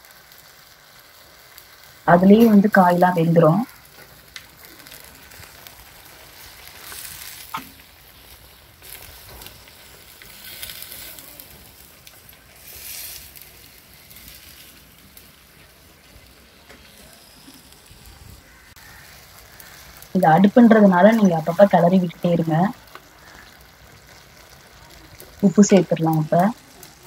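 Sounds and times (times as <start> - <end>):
food sizzling in a clay pot: 0.0 - 27.0.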